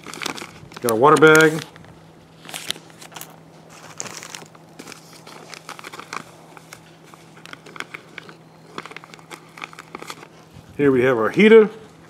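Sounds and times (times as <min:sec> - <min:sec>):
plastic packaging crinkling: 0:00.0 - 0:10.6
faint steady hum: 0:00.0 - 0:12.0.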